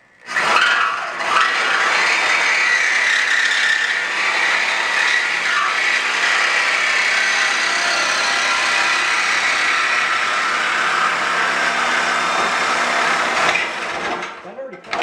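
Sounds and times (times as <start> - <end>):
power saw cutting steel pipe: 0.2 - 15.0.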